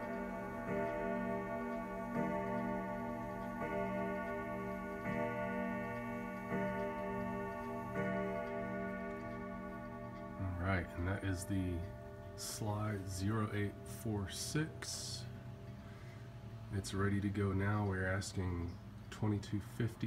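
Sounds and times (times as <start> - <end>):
clock striking deep rings: 0.0 - 18.2.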